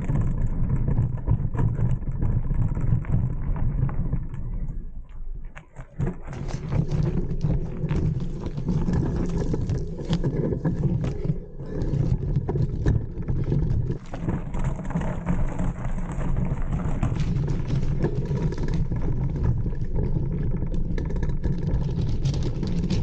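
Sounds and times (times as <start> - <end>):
tyres on dirt: 0.0 - 23.0.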